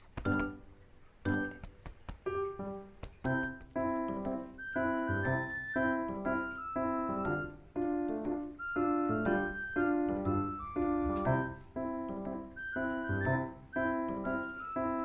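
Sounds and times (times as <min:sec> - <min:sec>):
keyboard chords: 0:00.2 - 0:15.0.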